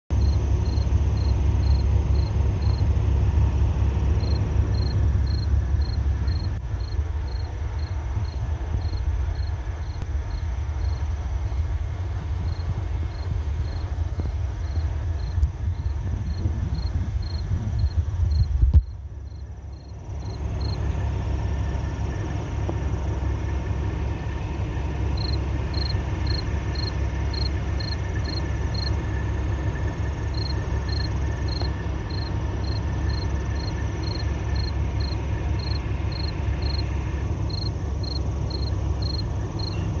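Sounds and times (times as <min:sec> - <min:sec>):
insects chirping: 0:00.1 - 0:22.6, 0:24.4 - 0:40.0
low rumble: 0:00.1 - 0:40.0.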